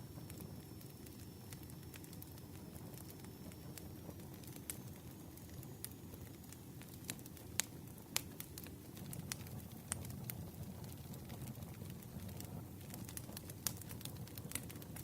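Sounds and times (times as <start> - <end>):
campfire rumbling: 0.0 - 15.0.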